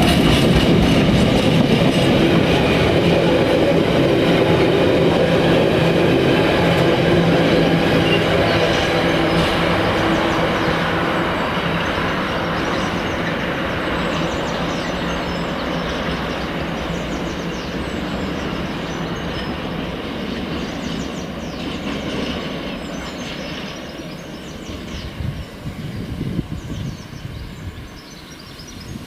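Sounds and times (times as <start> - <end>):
freight train wagons rolling: 0.0 - 25.6.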